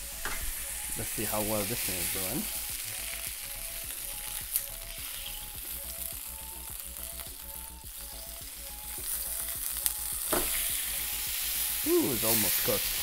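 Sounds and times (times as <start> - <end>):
cauliflower sizzling in a pan: 0.0 - 13.0.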